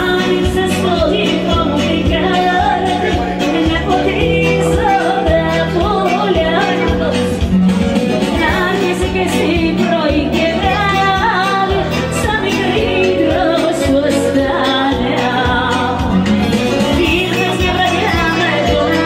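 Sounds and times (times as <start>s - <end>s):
electronic keyboard accompaniment: 0.0s - 19.0s
woman singing into microphone: 0.0s - 19.0s.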